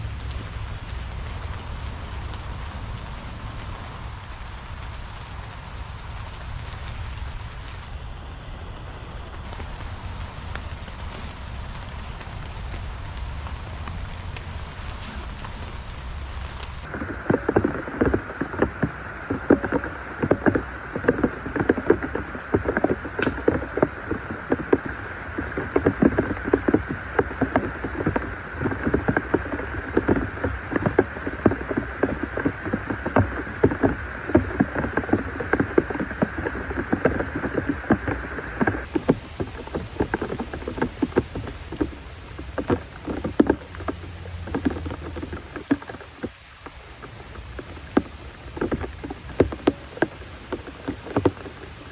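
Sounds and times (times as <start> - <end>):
heavy rain pattering: 0.0 - 19.3, 23.8 - 51.9.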